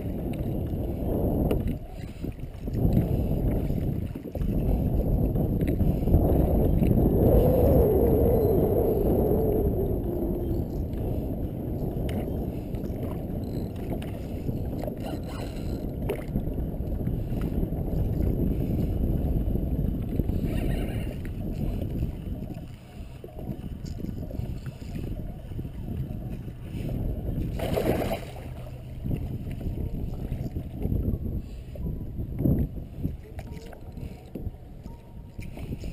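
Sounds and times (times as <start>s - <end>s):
wind rumbling on microphone: 0.0s - 35.9s.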